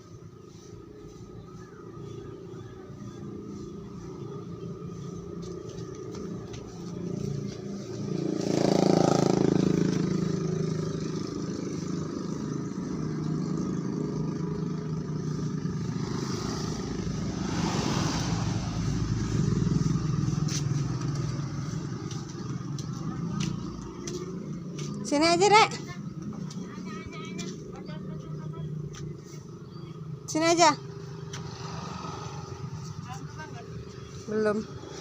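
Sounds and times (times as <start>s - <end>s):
vehicles passing by: 0.0s - 35.0s.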